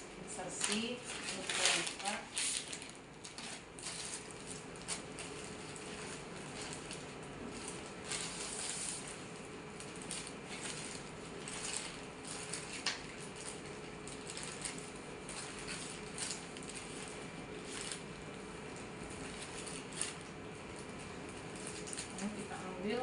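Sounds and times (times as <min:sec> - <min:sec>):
faint steady hum: 0:00.0 - 0:23.0
packaging rustling: 0:00.5 - 0:23.0.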